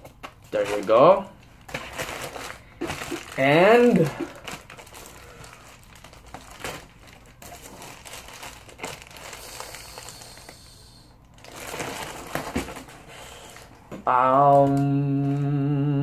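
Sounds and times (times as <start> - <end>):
plastic bag crinkling: 0.3 - 15.5.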